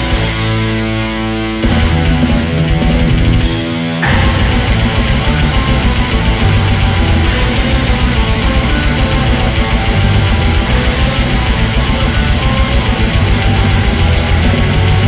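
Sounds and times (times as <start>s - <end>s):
distorted electric guitars: 0.0s - 15.0s
fast drumming: 1.8s - 15.0s.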